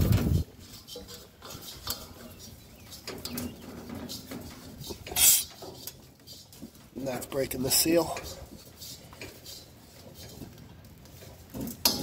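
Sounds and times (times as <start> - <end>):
coupling clicking and scraping on valve: 0.0 - 12.0.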